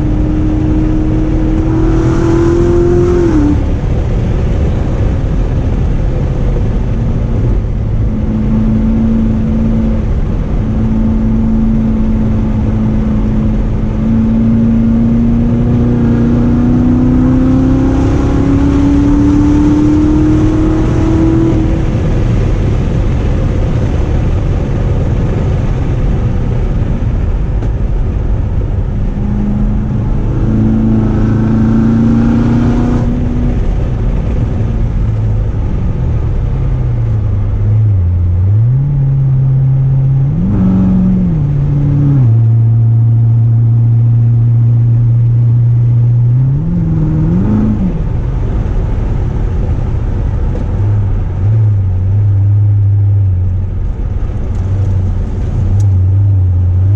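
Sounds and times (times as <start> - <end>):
car engine under load: 0.0 - 56.9.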